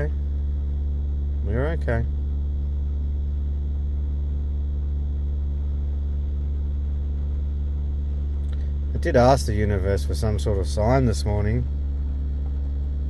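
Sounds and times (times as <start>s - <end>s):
car cabin engine drone: 0.0s - 13.0s.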